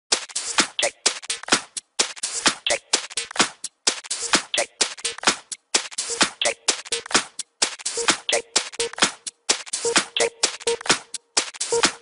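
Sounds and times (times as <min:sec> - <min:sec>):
electronic music with fast beat: 0:00.1 - 0:12.0.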